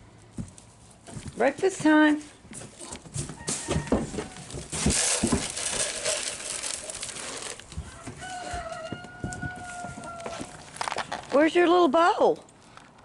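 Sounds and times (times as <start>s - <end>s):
dry rustling and crinkling: 0.2s - 11.8s.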